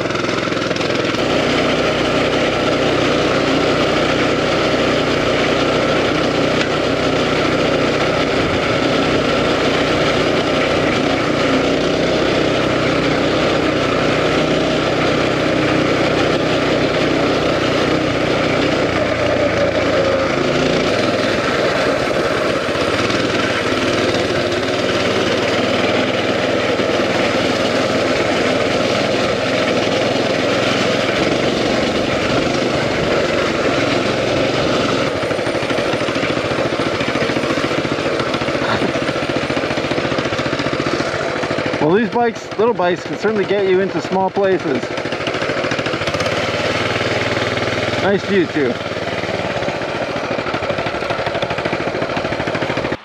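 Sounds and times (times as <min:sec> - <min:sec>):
mini bike engine running: 0:00.0 - 0:53.0.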